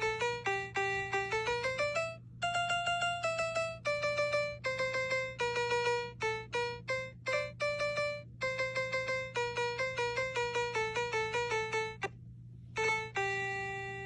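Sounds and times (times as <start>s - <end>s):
bright keyboard melody: 0.0s - 12.1s, 12.8s - 14.0s
steady low hum: 0.0s - 14.0s.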